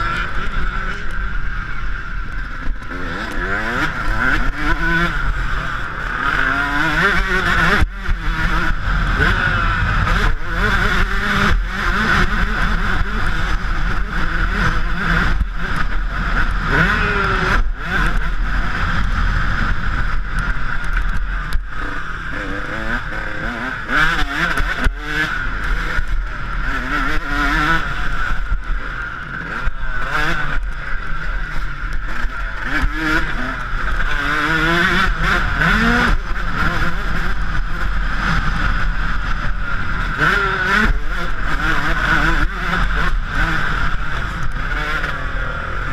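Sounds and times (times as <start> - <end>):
two-stroke engine revving: 0.0 - 45.9.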